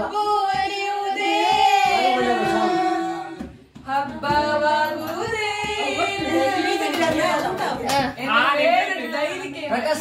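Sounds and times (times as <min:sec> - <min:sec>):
woman singing unaccompanied: 0:00.0 - 0:10.0.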